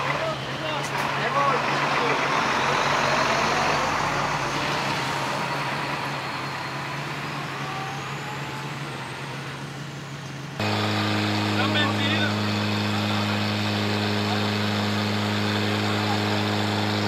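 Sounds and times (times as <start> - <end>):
fire truck engine driving off: 0.0 - 17.0.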